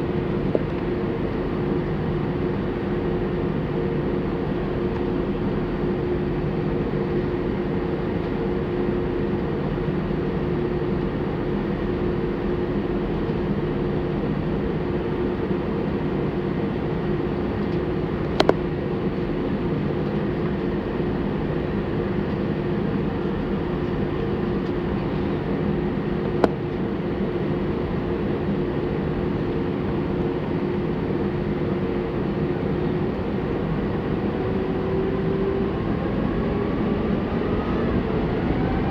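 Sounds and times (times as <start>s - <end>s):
jet engines running steadily: 0.0s - 38.9s.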